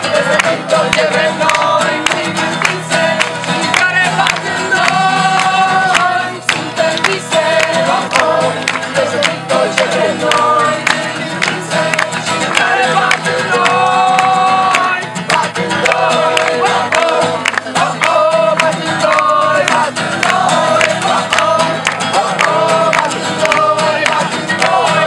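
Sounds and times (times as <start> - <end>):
small group singing: 0.0 - 25.0
strummed acoustic guitars: 0.0 - 25.0.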